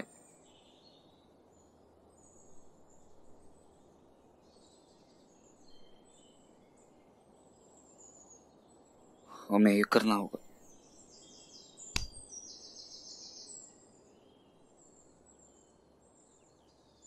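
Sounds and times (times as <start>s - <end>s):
faint background hiss: 0.0s - 17.0s
faint high-pitched bird chirps: 0.0s - 17.0s.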